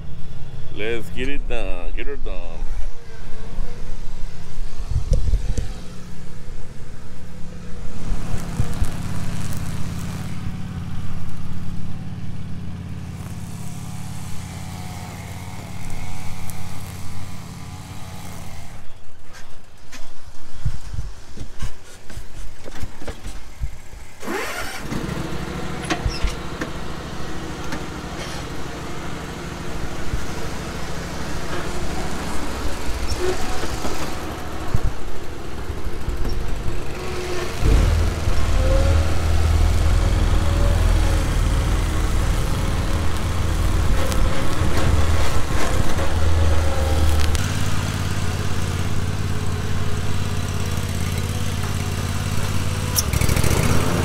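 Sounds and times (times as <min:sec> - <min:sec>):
lawn mower engine running: 0:05.3 - 0:19.0, 0:23.6 - 0:54.0.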